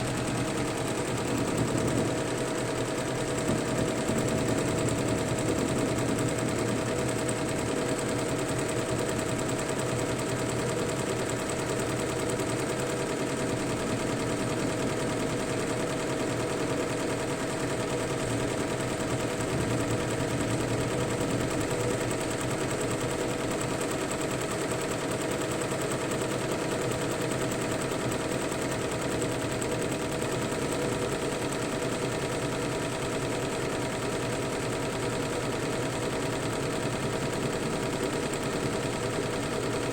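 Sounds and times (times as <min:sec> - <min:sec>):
embroidery machine stitching: 0:00.0 - 0:39.9.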